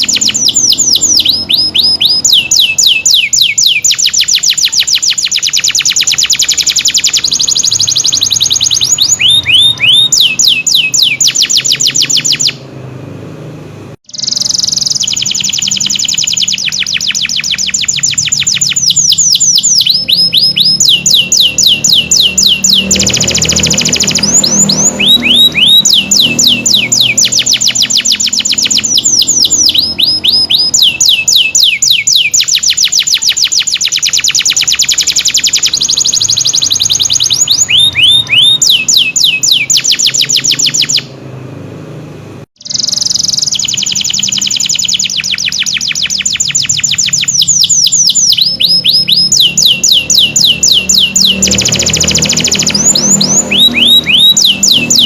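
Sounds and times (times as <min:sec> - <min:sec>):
canary singing trills: 0:00.0 - 0:12.7, 0:14.1 - 0:41.2, 0:42.6 - 0:55.0.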